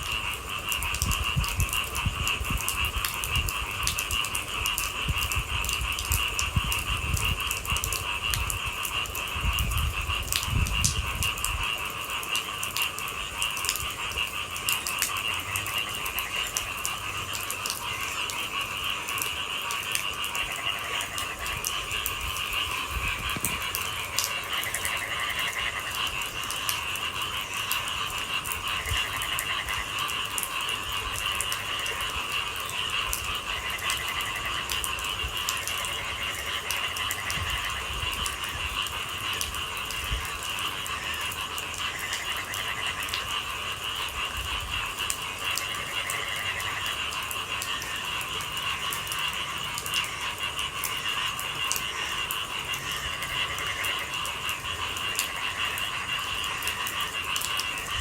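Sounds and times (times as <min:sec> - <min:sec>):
frogs trilling: 0:00.0 - 0:58.0
raindrops ticking: 0:00.0 - 0:58.0.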